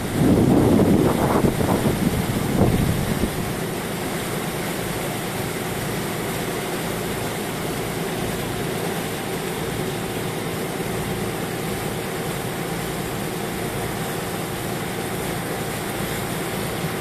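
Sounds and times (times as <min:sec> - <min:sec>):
boat engine droning: 0:00.0 - 0:17.0
rush of wind and water: 0:00.0 - 0:17.0.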